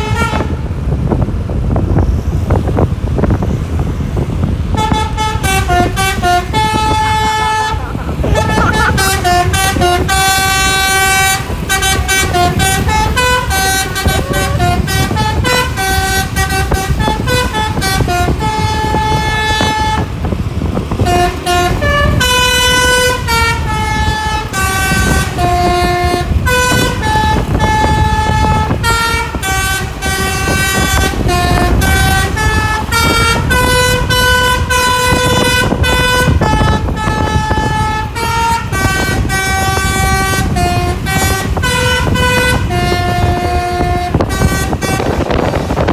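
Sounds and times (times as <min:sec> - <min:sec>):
bus horn playing a tune: 0:00.0 - 0:01.2, 0:01.8 - 0:45.9
engine and road rumble: 0:00.0 - 0:45.9.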